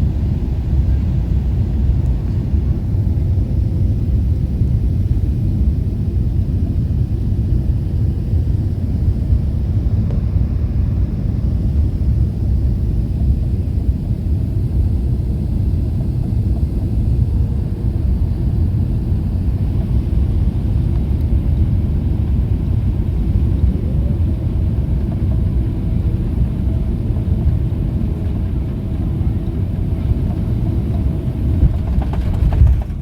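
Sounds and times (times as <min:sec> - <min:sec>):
airplane cabin engine rumble: 0:00.0 - 0:33.0
faint whine: 0:00.0 - 0:33.0.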